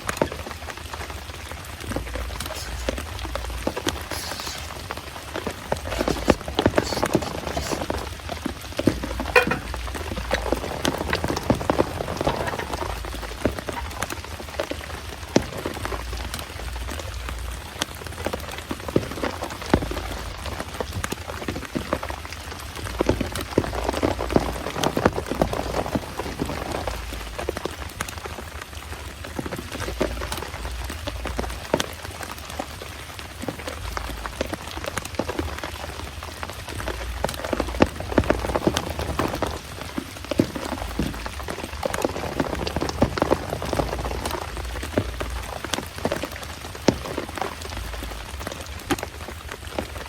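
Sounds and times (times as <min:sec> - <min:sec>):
heavy rain falling: 0:00.0 - 0:50.0
sharp raindrop hits: 0:00.0 - 0:50.0.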